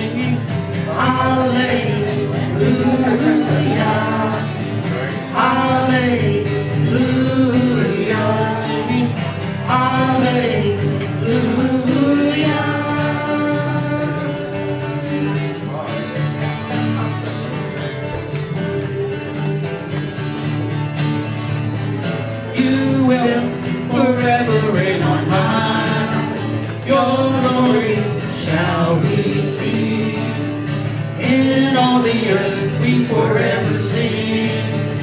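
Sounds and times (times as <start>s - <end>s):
guitar accompaniment: 0.0s - 35.0s.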